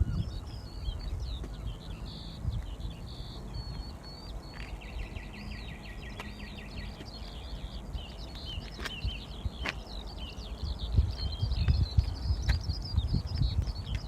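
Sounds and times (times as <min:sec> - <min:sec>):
small birds singing: 0:00.0 - 0:14.0
steady low rumble: 0:00.0 - 0:14.0.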